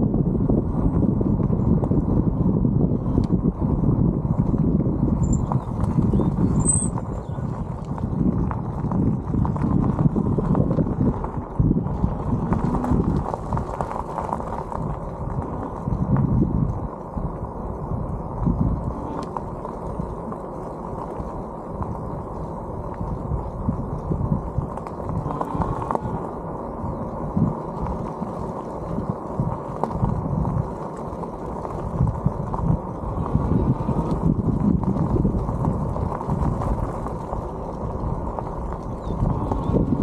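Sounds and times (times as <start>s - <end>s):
scooter tyres rumbling on gravel: 0.0s - 40.0s.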